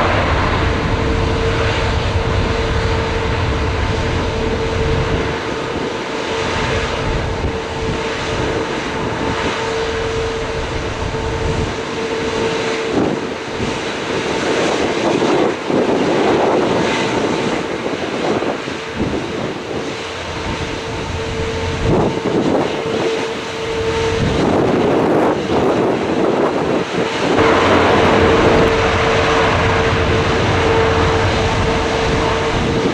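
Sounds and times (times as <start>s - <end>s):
jet engines whining: 0.0s - 32.9s
wind rumbling on microphone: 0.0s - 32.9s.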